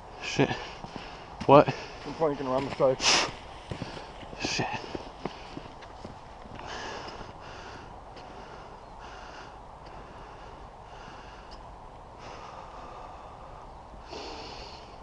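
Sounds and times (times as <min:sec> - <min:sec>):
person breathing hard: 0:00.5 - 0:02.2, 0:03.0 - 0:05.8, 0:06.5 - 0:11.6, 0:12.2 - 0:15.0.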